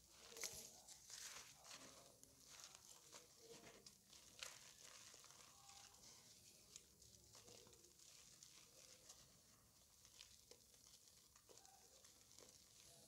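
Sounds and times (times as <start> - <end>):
chalk crunching and crackling: 0.0 - 13.0.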